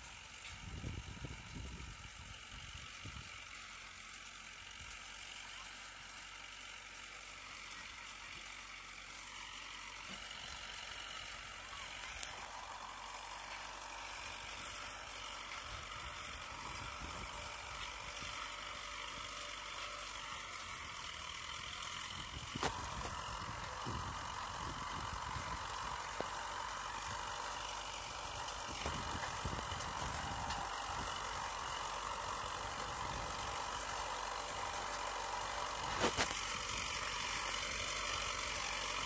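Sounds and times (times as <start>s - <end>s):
distant harvester running: 0.0s - 39.0s.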